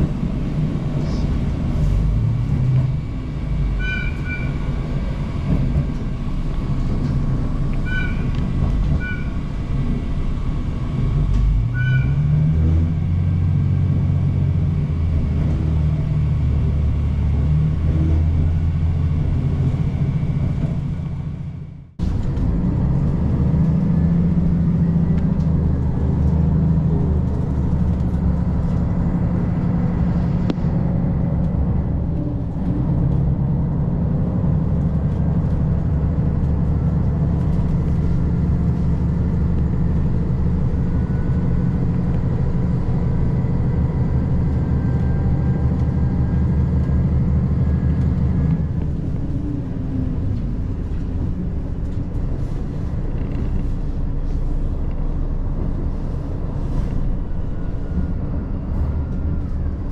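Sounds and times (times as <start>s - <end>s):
diesel engine drone: 0.0s - 59.9s
train wheels rumbling on rails: 0.0s - 59.9s.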